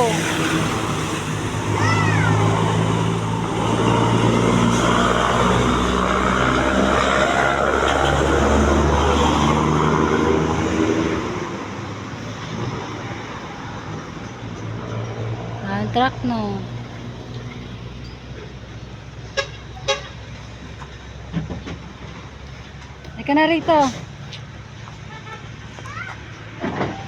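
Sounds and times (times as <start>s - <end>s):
truck driving past: 0.0s - 27.0s.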